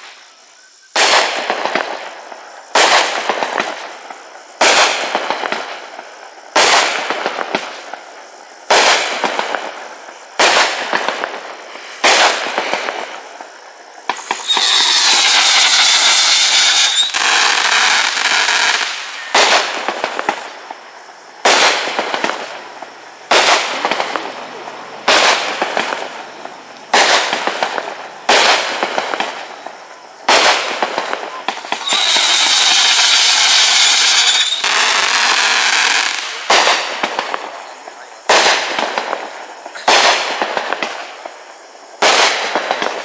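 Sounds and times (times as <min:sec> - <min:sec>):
continuous firework noise: 0:00.0 - 0:43.0
firework shots: 0:00.0 - 0:43.0.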